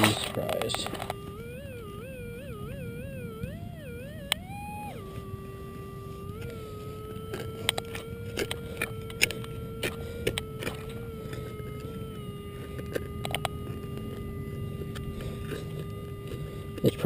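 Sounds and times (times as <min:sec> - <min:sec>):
metal detector tone: 0:00.0 - 0:17.0.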